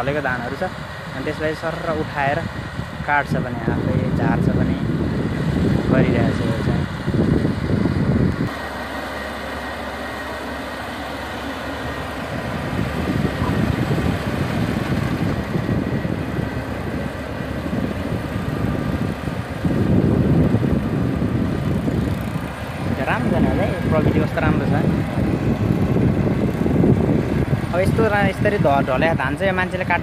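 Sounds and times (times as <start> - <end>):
combine harvester droning: 0.0 - 30.0.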